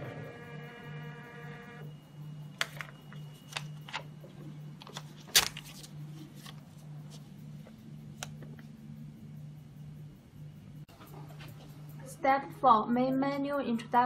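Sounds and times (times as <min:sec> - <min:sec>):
steady whine of even tones: 0:00.0 - 0:05.2, 0:05.9 - 0:14.0.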